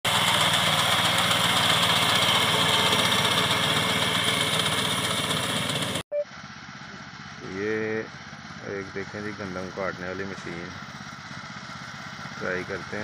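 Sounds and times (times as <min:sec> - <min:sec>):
small engine running: 0:00.1 - 0:13.0.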